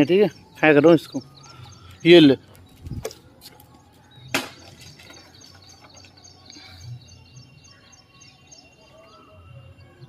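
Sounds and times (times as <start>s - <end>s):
bird chirping: 0.0s - 10.0s
faint outdoor background noise: 0.0s - 10.0s.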